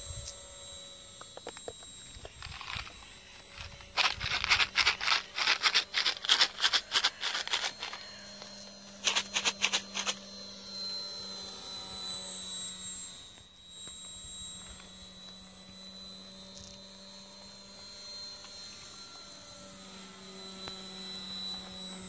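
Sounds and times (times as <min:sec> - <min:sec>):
model plane motor whine: 0:00.0 - 0:22.0.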